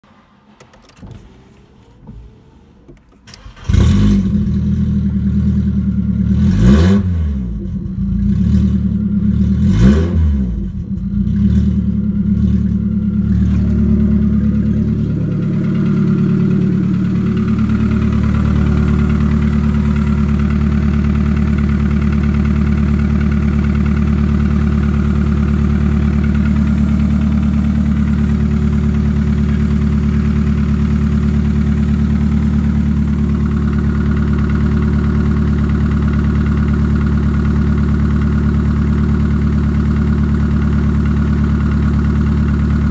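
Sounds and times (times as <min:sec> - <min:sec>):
car engine idling: 0:00.0 - 0:42.9
car engine starting and revving: 0:00.2 - 0:37.9.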